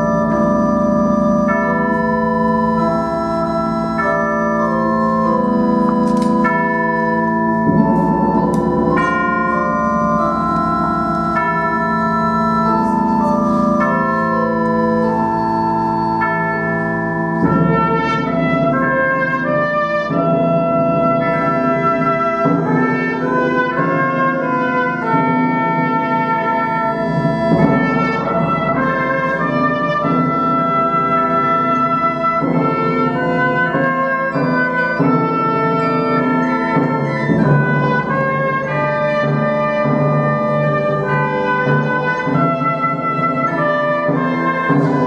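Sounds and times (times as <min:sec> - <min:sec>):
pipe organ chords: 0:00.0 - 0:45.0
trumpet slow melody: 0:00.0 - 0:45.0.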